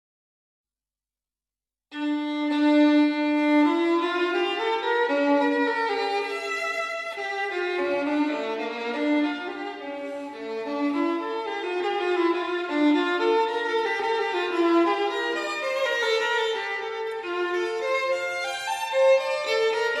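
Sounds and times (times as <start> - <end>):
violin melody: 1.9 - 20.0.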